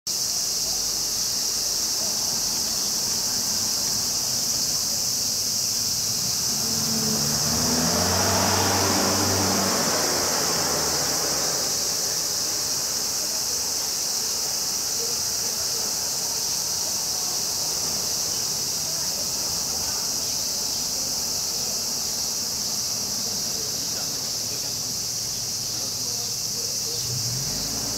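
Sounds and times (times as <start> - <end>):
cicadas singing: 0.1 - 27.9.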